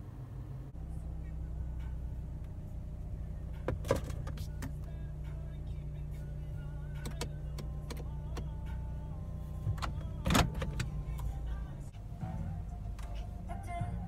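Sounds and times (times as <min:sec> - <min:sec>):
car engine idling: 0:00.0 - 0:14.0
faint background music: 0:00.7 - 0:14.0.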